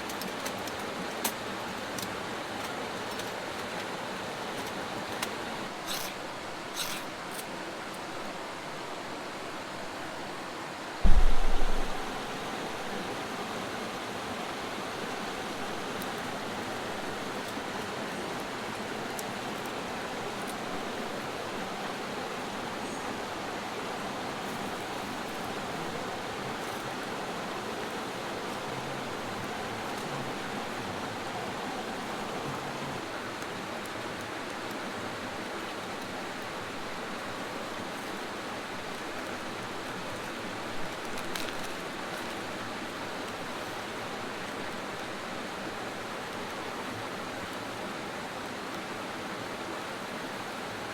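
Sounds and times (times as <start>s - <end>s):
creek water rushing: 0.0s - 50.9s.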